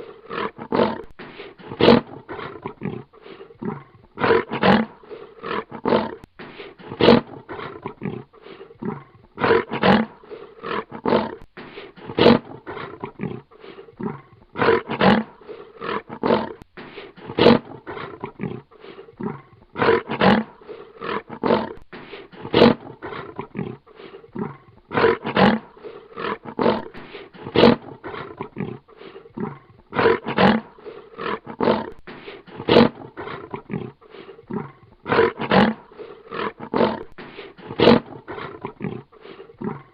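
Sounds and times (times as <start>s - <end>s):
lion growling: 0.0s - 39.9s.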